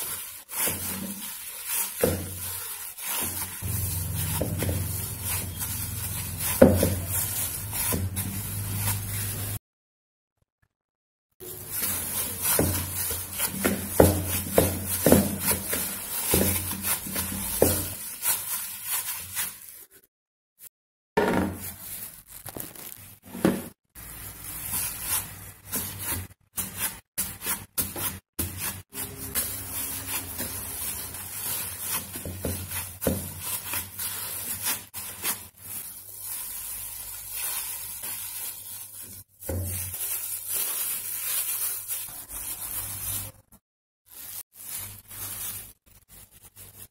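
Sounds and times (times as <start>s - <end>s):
dough squishing: 0.0s - 9.6s, 11.4s - 20.0s, 21.6s - 23.1s, 24.0s - 43.4s
plastic gloves crinkling: 0.0s - 9.6s, 11.4s - 20.0s, 21.4s - 46.9s.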